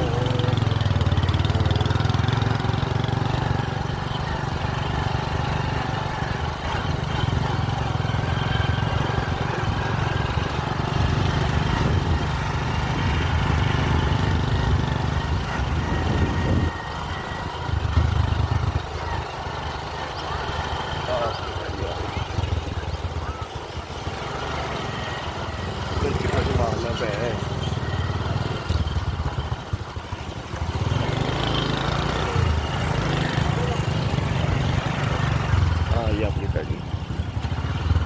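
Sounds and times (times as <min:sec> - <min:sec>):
engine running with rough rumble: 0:00.0 - 0:38.0.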